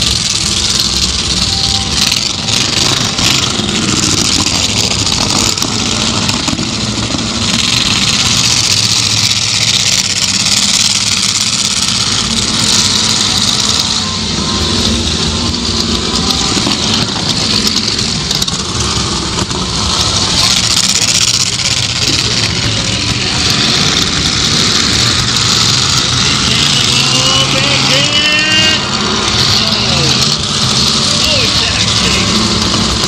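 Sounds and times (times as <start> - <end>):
car engines rumbling: 0.0 - 33.0
loud steady hiss: 0.0 - 33.0.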